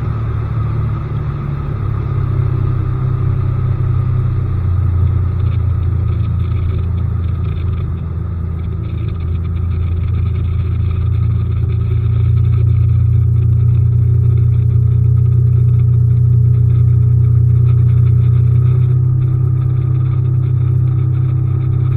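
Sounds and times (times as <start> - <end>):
outboard motor droning: 0.0 - 21.9.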